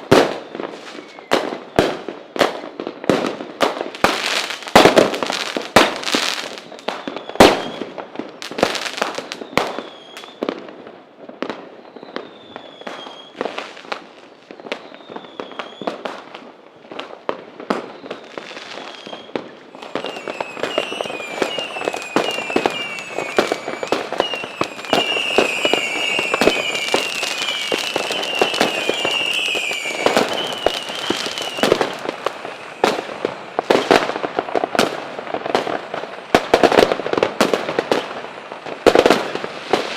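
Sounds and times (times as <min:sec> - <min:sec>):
fireworks whistles: 0:00.0 - 0:10.8, 0:11.4 - 0:39.9
fireworks bangs: 0:00.0 - 0:39.9
fireworks crackling: 0:00.0 - 0:39.9.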